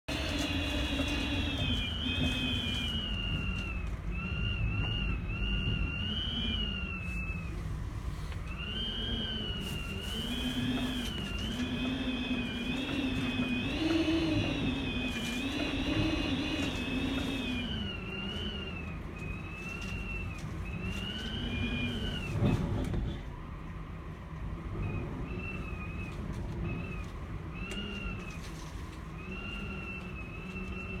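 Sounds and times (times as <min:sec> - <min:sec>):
wind howling around building: 0:00.1 - 0:31.0.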